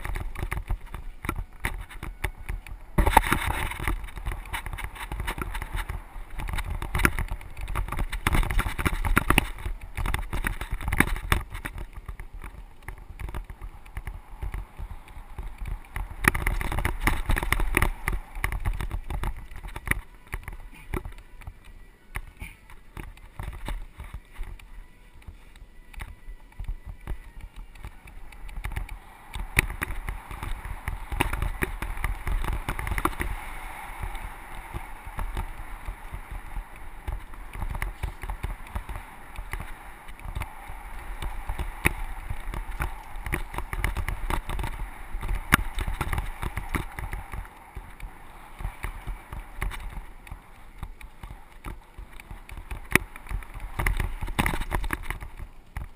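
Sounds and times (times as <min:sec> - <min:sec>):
bike rattles and knocks: 0:00.0 - 0:55.9
tyres rolling over dirt and gravel: 0:00.0 - 0:55.9
wind rumble on microphone: 0:00.0 - 0:55.9.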